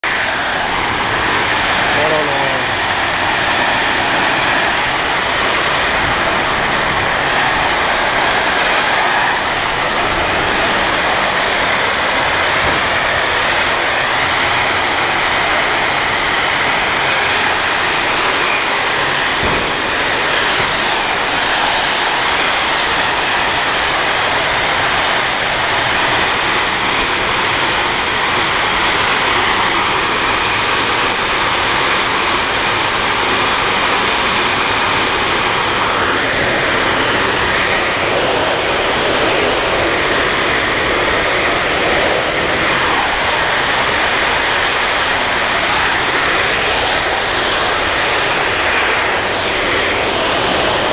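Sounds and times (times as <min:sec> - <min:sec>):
gas flame jet roaring: 0:00.0 - 0:50.9.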